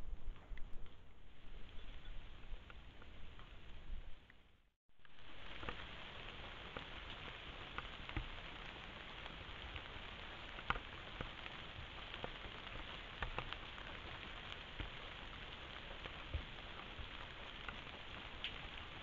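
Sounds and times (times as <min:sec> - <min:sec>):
rain on undergrowth: 0:00.2 - 0:19.0.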